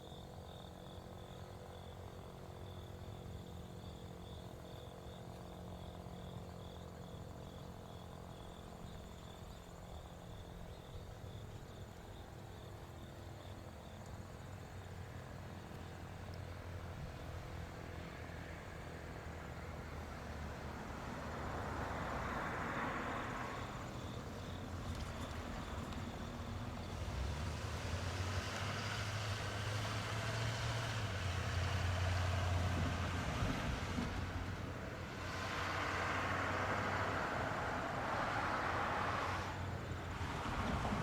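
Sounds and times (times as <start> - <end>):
tyre noise of passing vehicles: 0.0 - 41.0.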